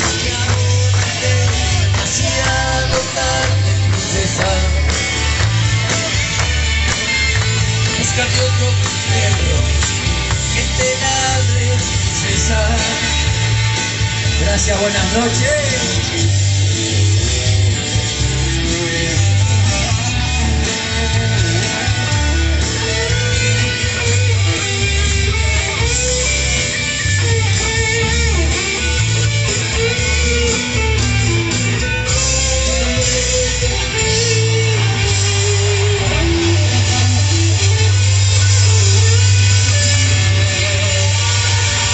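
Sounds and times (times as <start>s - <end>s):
bass line: 0.0s - 41.9s
electric guitar melody: 0.0s - 41.9s.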